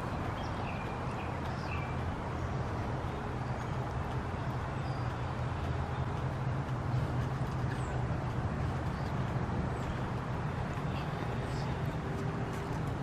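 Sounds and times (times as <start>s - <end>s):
steady background rush: 0.0s - 13.0s.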